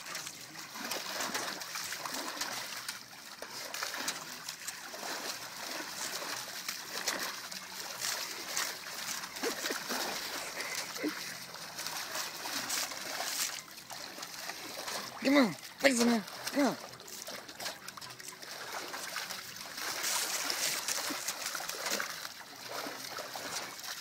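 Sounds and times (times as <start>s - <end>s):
dog splashing water in metal tub: 0.0s - 24.0s.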